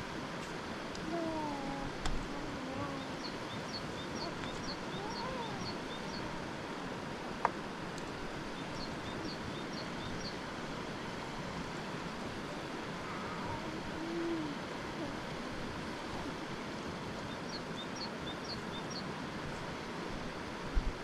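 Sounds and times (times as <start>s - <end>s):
rushing background noise: 0.0s - 21.0s.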